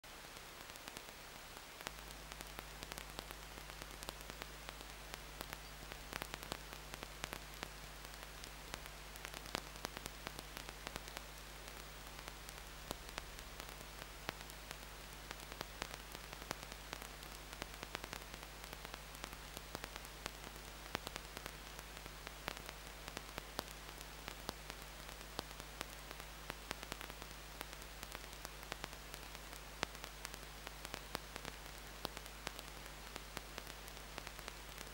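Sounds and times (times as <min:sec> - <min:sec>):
low mains hum: 0:00.0 - 0:34.9
electrical hiss: 0:00.1 - 0:34.9
crackling clicks: 0:00.4 - 0:34.9.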